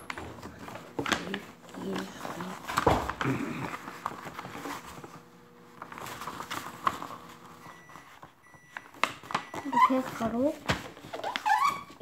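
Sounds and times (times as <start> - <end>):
paper rustling on wooden table: 0.0 - 12.0.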